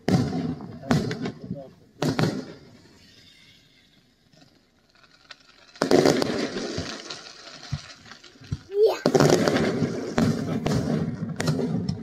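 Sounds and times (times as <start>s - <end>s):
fireworks bursting: 0.0s - 12.0s
fireworks crackle: 0.0s - 12.0s.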